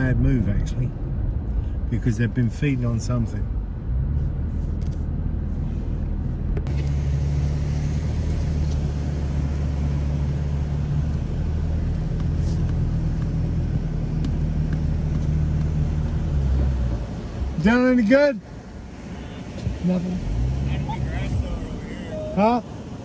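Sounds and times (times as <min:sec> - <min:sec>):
vehicle engine and tyre drone: 0:00.0 - 0:23.0.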